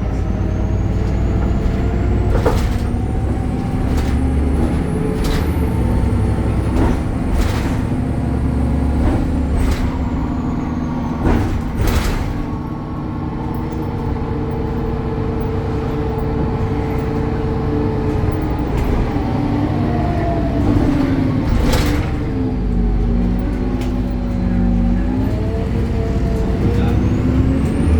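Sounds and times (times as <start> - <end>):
bus engine humming: 0.0 - 27.9.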